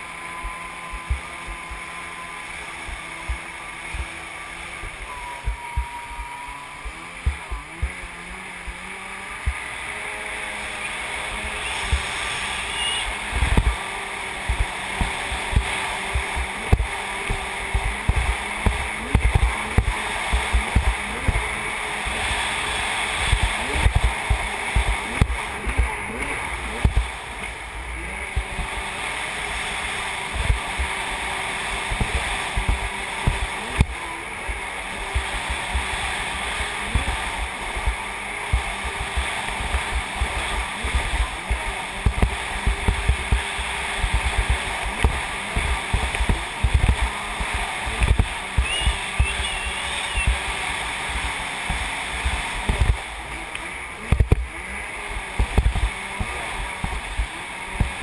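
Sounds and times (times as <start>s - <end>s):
jet ski engine running: 0.0s - 58.0s.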